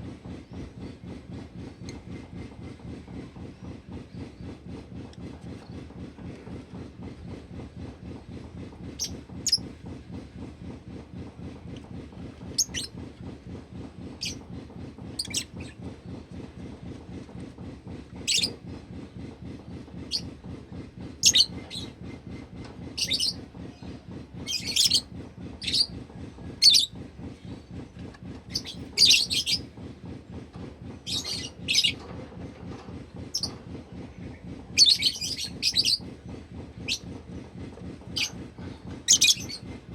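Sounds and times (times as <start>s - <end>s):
low pulsing hum: 0.0s - 39.9s.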